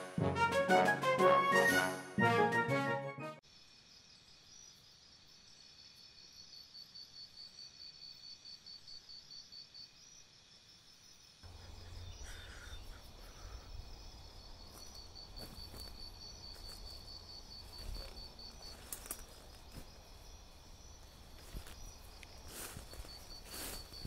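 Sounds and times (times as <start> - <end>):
insects trilling: 3.4 - 24.0.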